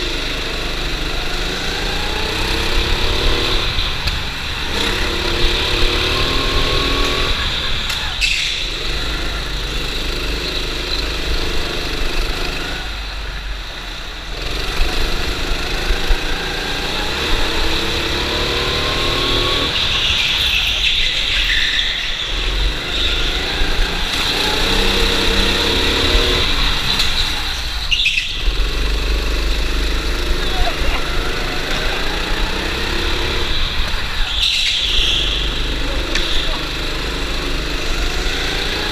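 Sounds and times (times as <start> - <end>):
go-kart engine revving: 0.0 - 38.9
low rumble of kart vibration: 0.0 - 38.9.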